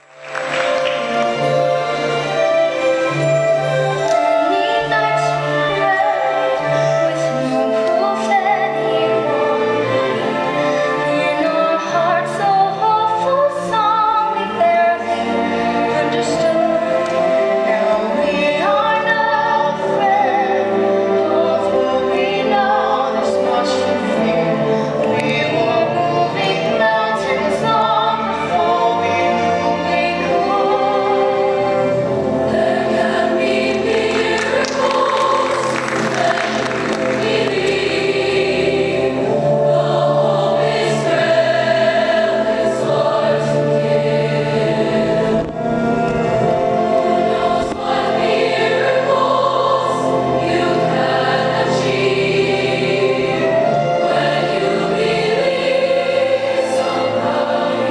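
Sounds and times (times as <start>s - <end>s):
choir singing in harmony: 0.0s - 57.9s.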